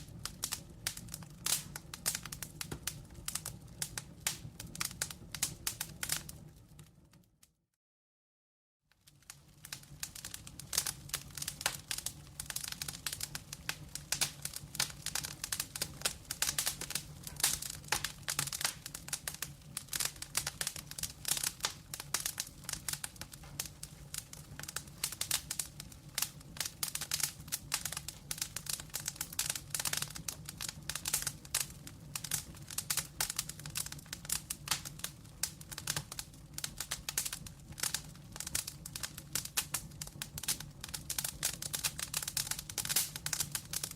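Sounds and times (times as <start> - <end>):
wood fire crackling: 0.0 - 7.5, 8.9 - 43.9.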